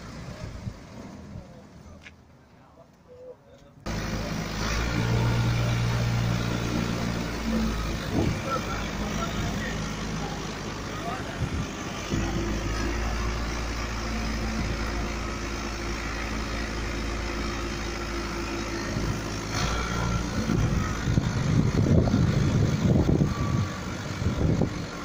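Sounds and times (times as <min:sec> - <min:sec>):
engine idling: 0:03.9 - 0:25.0
uneven low rumbling: 0:03.9 - 0:25.0.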